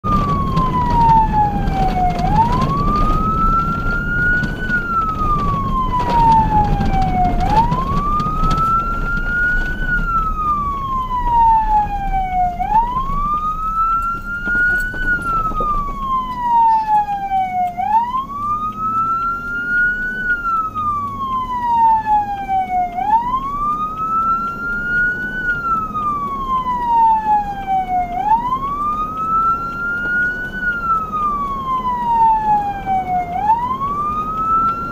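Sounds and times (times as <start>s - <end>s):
emergency siren wailing: 0.0s - 34.9s
engine and road rumble: 0.0s - 34.9s.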